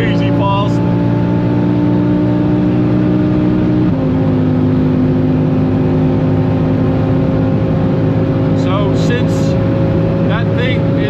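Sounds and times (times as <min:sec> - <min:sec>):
car engine running hard: 0:00.0 - 0:11.0.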